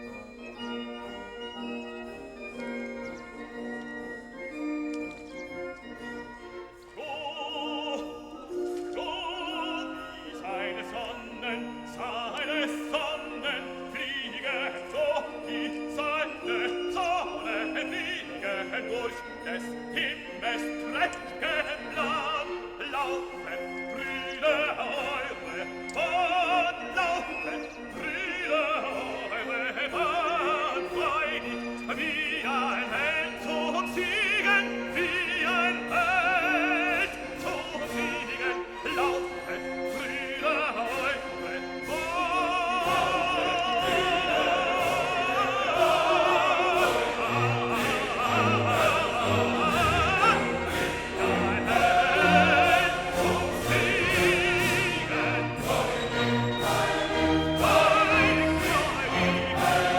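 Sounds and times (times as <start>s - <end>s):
operatic singing with orchestra: 0.0s - 59.9s.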